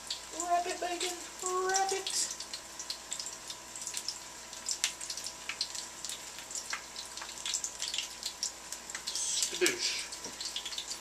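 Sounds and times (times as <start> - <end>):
chicken frying crackles and pops: 0.0 - 11.0
faint steady hiss: 0.0 - 11.0
thin steady hum: 0.0 - 11.0.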